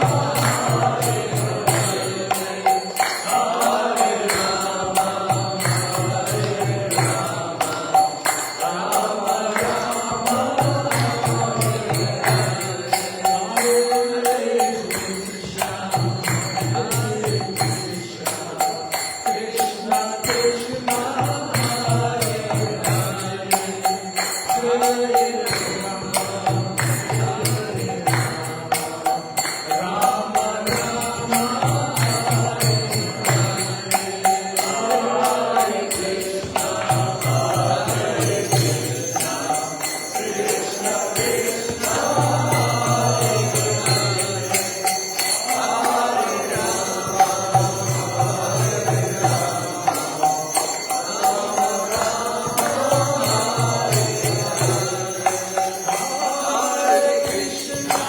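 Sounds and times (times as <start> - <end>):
jingling metal percussion: 0.0 - 58.0
voices chanting to music: 0.0 - 58.0.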